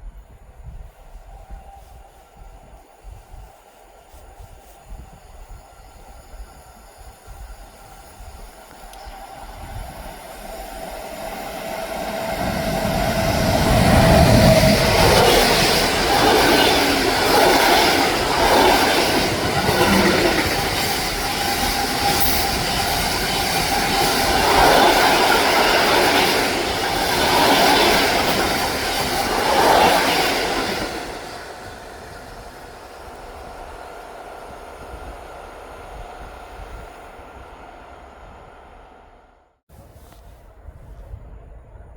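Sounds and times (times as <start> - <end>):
train wheels clickety-clack: 0.0 - 38.4
train passing at speed: 0.0 - 41.9.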